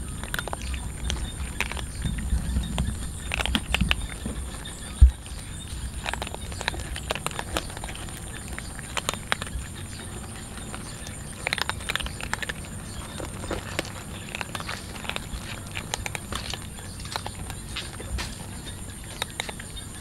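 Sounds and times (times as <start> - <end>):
cats crunching dry kibble: 0.0 - 20.0
low background rumble: 0.0 - 20.0.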